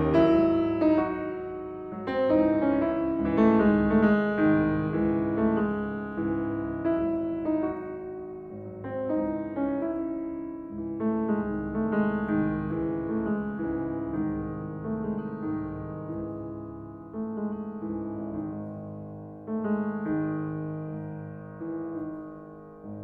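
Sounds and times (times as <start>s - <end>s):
piano-like keyboard melody: 0.0s - 23.0s.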